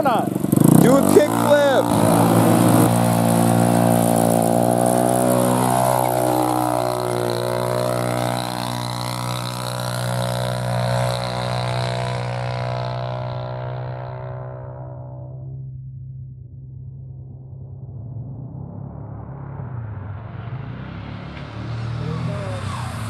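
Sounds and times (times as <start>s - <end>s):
small engine droning: 0.0s - 23.0s.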